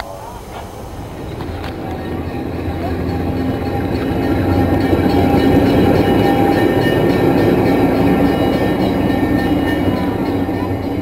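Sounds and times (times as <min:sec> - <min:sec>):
train rumbling and rattling on track: 0:00.0 - 0:11.0.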